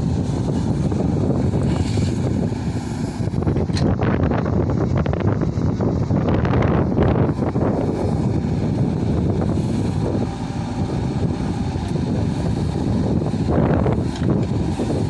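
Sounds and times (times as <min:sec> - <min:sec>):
diesel engine running: 0:00.0 - 0:15.0
wind buffeting microphone: 0:00.0 - 0:15.0.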